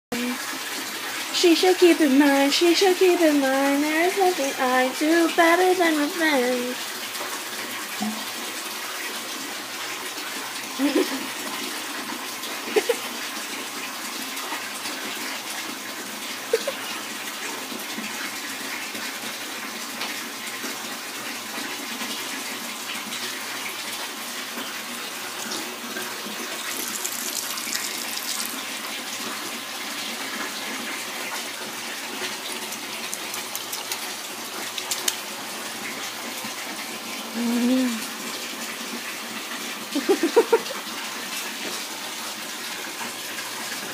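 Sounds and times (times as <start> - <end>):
faucet running into sink: 0.2 - 43.9.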